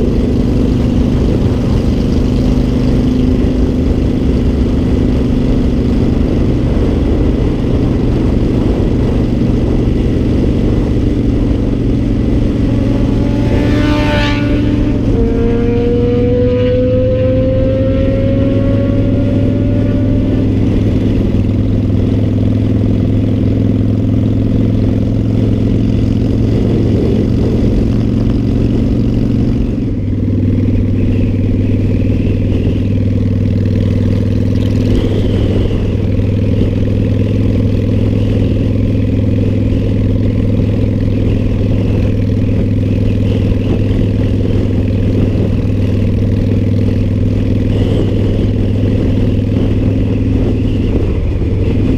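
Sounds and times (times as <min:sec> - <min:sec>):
motorcycle engine cruising: 0:00.0 - 0:51.9
wind rush: 0:00.0 - 0:51.9.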